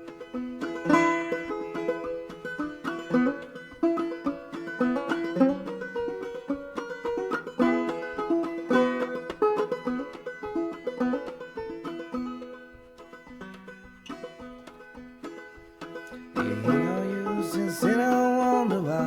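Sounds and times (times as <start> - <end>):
banjo plucked notes: 0.0 - 19.0.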